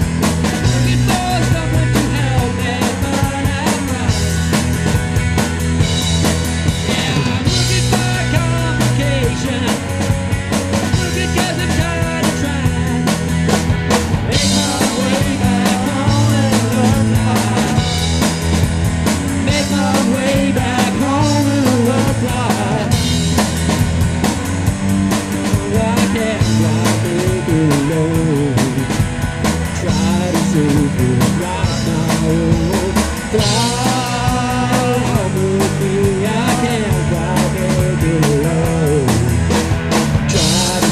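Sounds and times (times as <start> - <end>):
bass guitar: 0.0 - 40.9
drum kit: 0.0 - 40.9
melodic lead line: 0.0 - 40.9.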